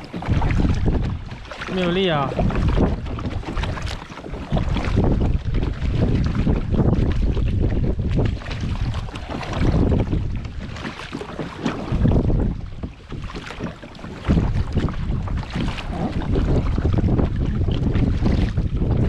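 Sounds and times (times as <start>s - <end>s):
water splashing around kayak: 0.0s - 19.0s
wind buffeting microphone: 0.0s - 19.0s.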